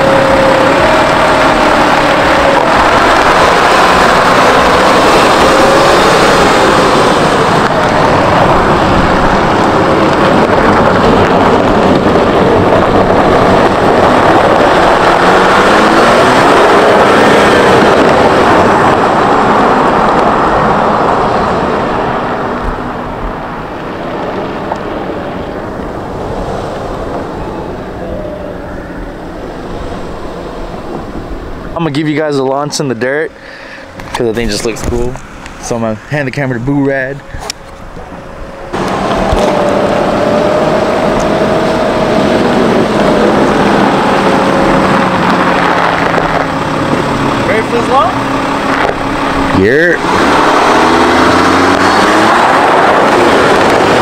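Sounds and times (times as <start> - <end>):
wind on microphone: 0.0 - 31.8, 33.1 - 54.0
car engine driving: 0.0 - 54.0.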